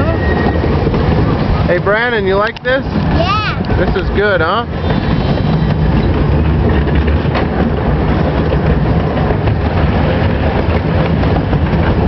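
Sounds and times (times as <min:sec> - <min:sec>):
miniature train rumbling on rails: 0:00.0 - 0:12.0.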